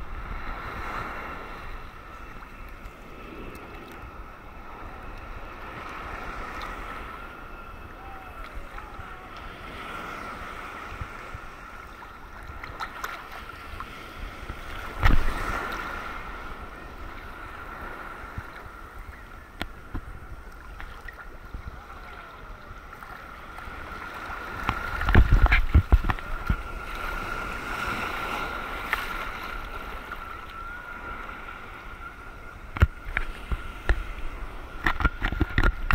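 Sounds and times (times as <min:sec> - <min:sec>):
sea water sloshing: 0:00.0 - 0:35.9
waves slapping against camera: 0:00.0 - 0:35.9.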